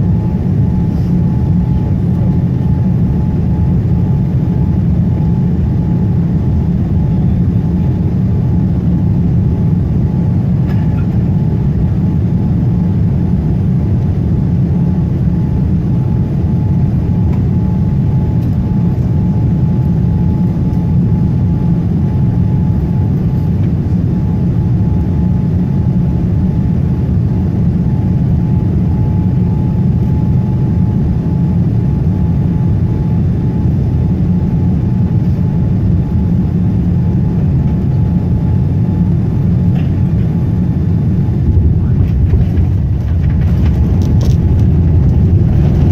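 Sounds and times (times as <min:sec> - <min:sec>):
airplane cabin engine rumble: 0:00.0 - 0:45.9
faint constant hum: 0:00.0 - 0:45.9.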